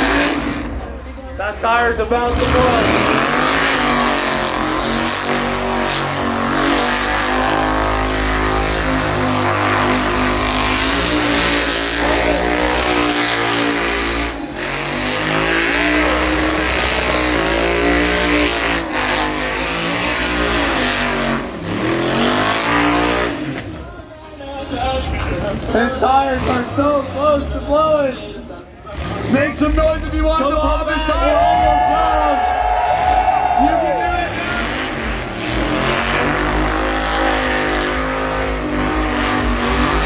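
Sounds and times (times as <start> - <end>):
car engine revving high: 0.0 - 23.9, 31.4 - 40.0.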